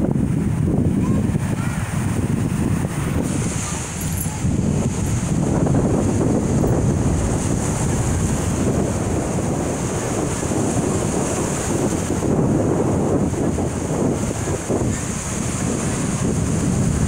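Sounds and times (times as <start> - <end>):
small waves breaking on beach: 0.0 - 17.0
wind on microphone rumble: 0.0 - 17.0.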